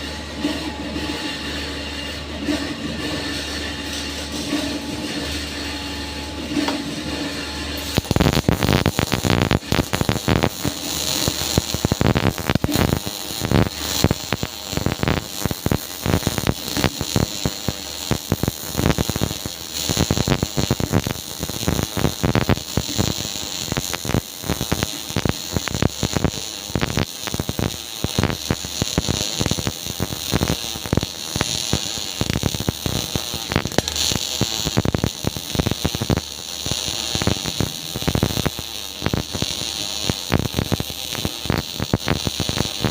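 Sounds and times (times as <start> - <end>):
steady low hum: 0.0 - 42.9
welding arc crackling: 0.0 - 42.9.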